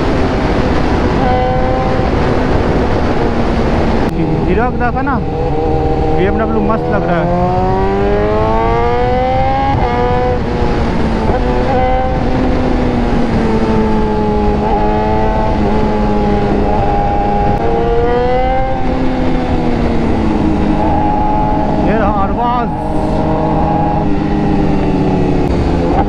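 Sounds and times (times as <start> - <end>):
heavy wind noise: 0.0 - 26.0
motorcycle engine: 0.0 - 26.0.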